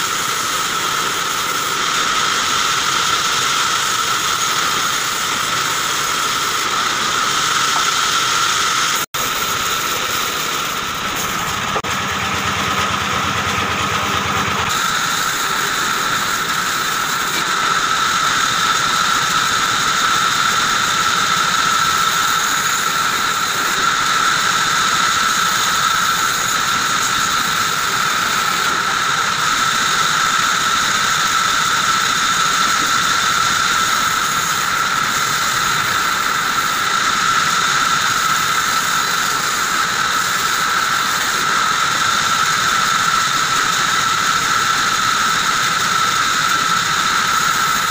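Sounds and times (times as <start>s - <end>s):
band saw cutting wood: 0.0s - 47.9s.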